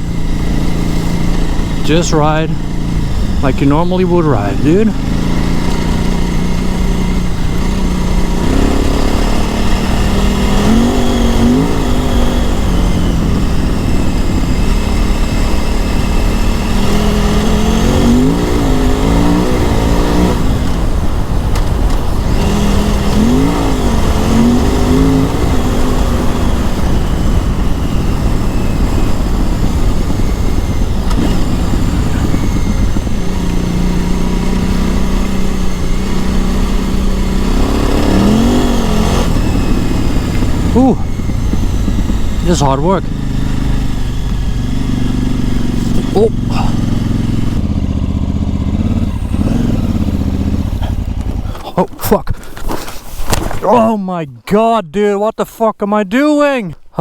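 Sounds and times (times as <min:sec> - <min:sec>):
motorcycle engine revving: 0:00.0 - 0:54.2.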